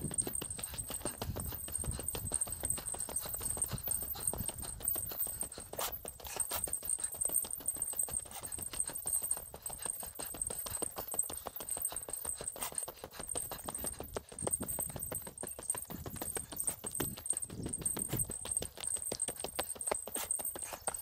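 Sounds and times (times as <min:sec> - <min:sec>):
footsteps crunching on road: 0:00.0 - 0:21.0.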